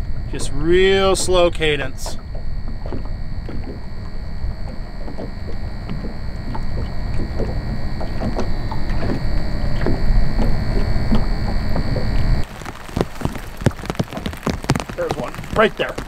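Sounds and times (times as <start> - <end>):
faint high-pitched whine: 0.0 - 16.0
low rumble of wind and water: 0.0 - 16.0
waves lapping against boat hull: 0.0 - 16.0.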